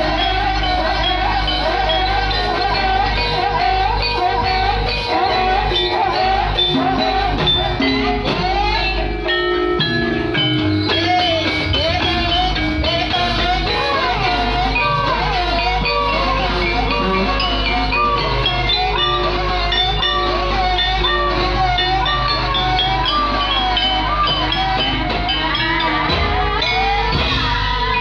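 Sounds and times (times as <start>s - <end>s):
gliding melody line: 0.0s - 26.1s.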